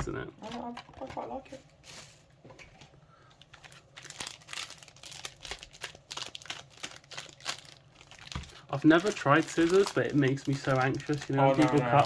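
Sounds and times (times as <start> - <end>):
foil packs crinkling: 0.4 - 2.3, 3.3 - 12.0.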